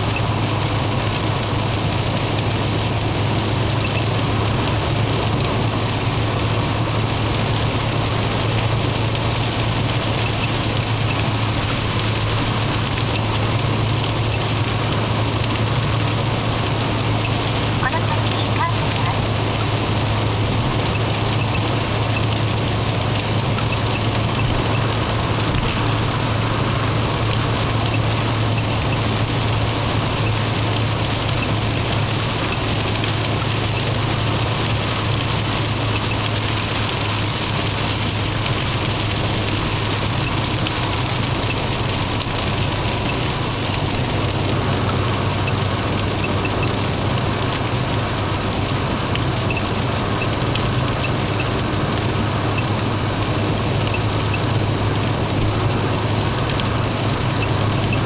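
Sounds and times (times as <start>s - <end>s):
engine and road drone: 0.0s - 58.0s.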